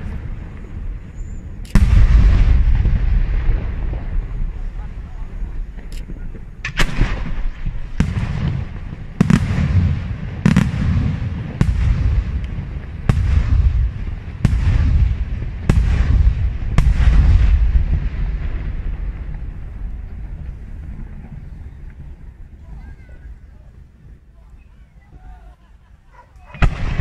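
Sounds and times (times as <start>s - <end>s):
rolling rumble: 0.0s - 27.0s.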